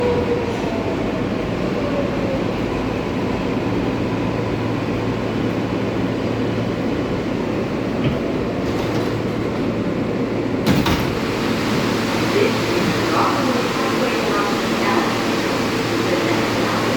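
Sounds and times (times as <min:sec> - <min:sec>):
subway car running noise: 0:00.0 - 0:16.9.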